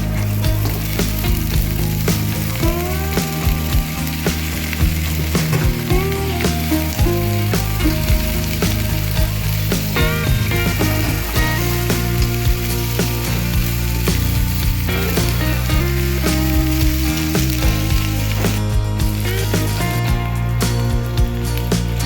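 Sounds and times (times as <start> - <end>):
background music: 0.0 - 22.0
food sizzling in a pan: 0.0 - 22.0.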